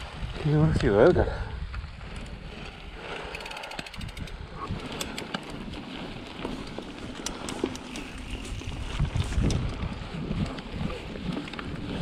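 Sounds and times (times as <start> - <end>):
bike clicking and rattling: 0.0 - 12.0
bike tyres on dirt: 0.0 - 12.0
wind buffeting microphone: 0.0 - 12.0.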